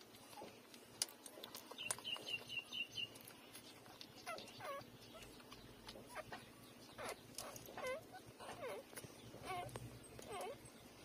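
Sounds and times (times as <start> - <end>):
puppies whining: 1.5 - 10.8
puppies squeaking: 1.7 - 10.8.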